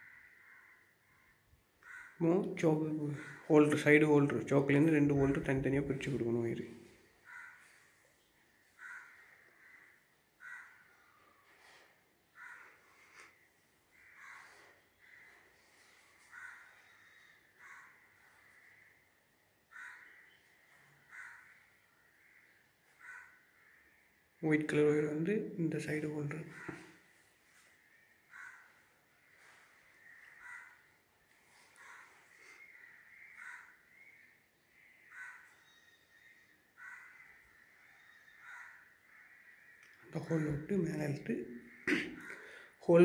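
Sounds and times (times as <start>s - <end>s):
faint harsh bird calls: 0.0s - 25.0s, 25.9s - 42.8s.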